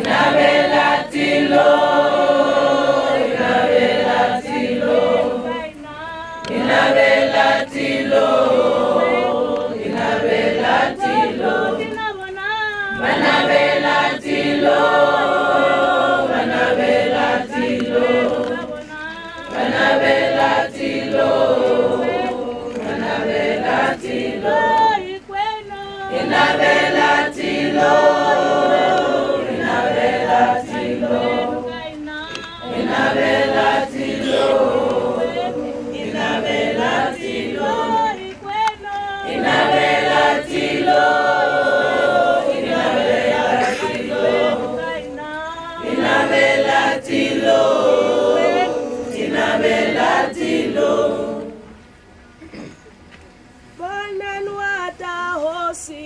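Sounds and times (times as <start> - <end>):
choir singing in harmony: 0.0 - 12.2, 12.8 - 51.9.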